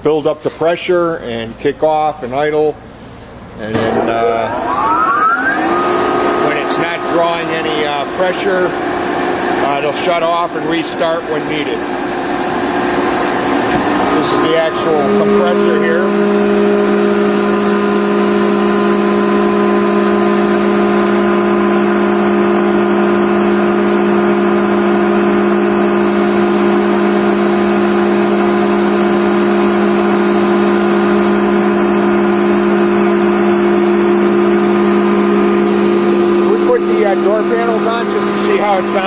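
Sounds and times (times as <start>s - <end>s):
air compressor droning: 0.0s - 39.0s.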